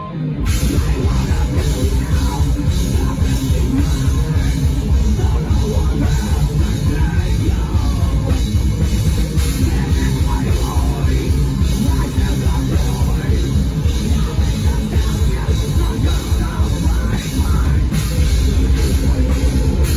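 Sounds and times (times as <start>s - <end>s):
drum kit pounding: 0.0s - 19.9s
rock band playing: 0.0s - 19.9s.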